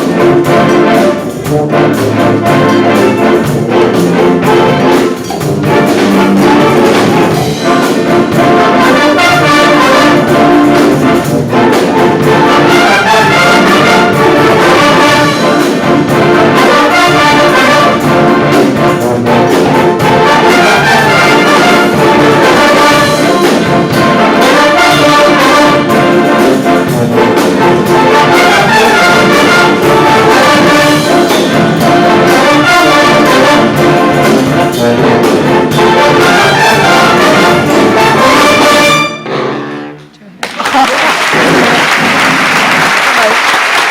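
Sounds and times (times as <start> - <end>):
brass wind band playing: 0.0 - 40.0, 41.2 - 43.9
trombones and trumpets: 0.0 - 40.1.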